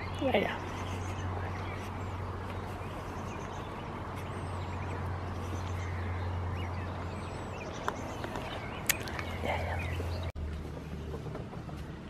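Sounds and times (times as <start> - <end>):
bird chirps: 0.0 - 10.4.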